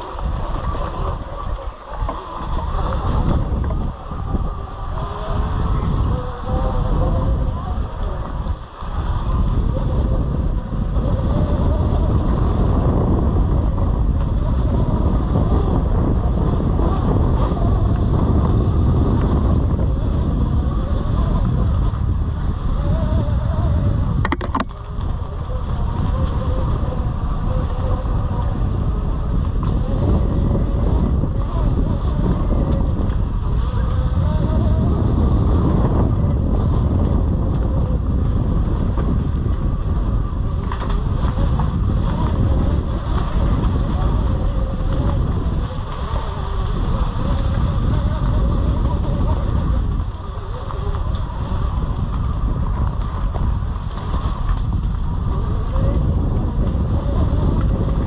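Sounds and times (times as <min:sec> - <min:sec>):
electric motor whine: 0:00.0 - 0:58.0
wind buffeting microphone: 0:00.0 - 0:58.0.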